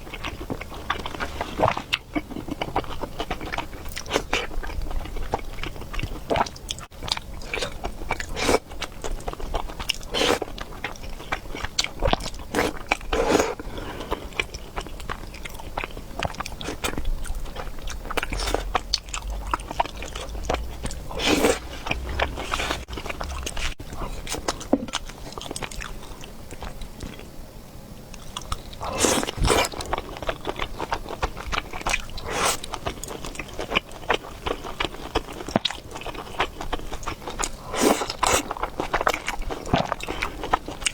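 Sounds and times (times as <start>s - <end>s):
person chewing food: 0.0s - 27.3s, 28.2s - 40.9s.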